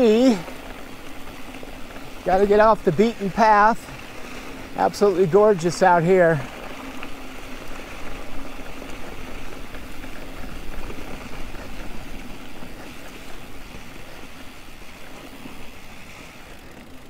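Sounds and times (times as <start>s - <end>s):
bike tyres rolling on sand and gravel: 0.0s - 17.0s.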